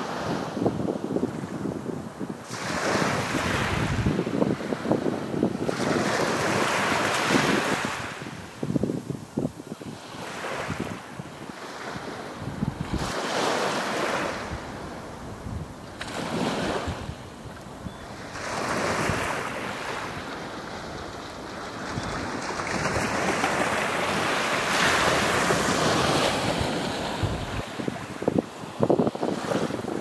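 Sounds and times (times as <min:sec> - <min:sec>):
wind buffeting microphone: 0:00.1 - 0:13.4, 0:14.0 - 0:30.0
small waves breaking on sand: 0:02.4 - 0:30.0.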